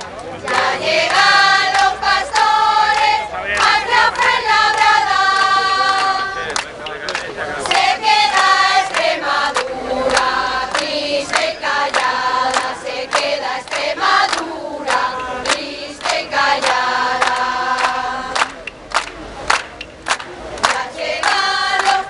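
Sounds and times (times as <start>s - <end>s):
hands clapping in time: 0.0s - 22.0s
women's choir singing: 0.4s - 6.5s, 7.6s - 18.6s, 20.6s - 22.0s.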